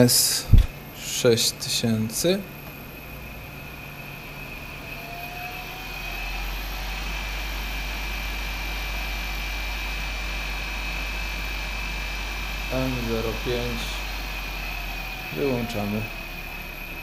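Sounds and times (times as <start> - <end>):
electric motor whine: 2.2 - 17.0.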